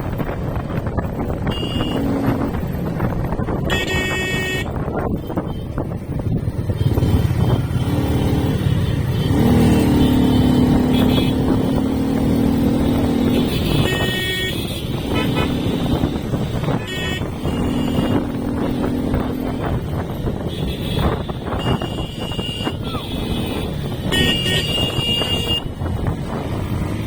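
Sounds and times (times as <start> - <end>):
wind rushing on microphone: 0.0 - 27.0.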